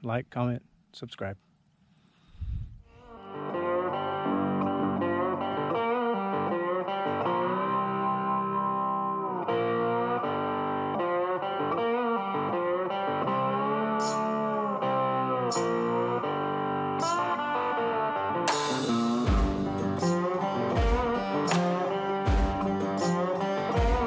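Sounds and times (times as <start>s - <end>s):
guitar music with bending notes: 3.1s - 24.0s.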